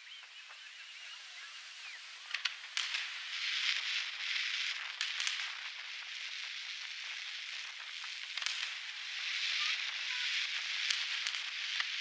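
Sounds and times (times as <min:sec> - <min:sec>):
fireworks crackling hiss: 0:00.0 - 0:12.0
fireworks sharp cracks: 0:02.0 - 0:12.0.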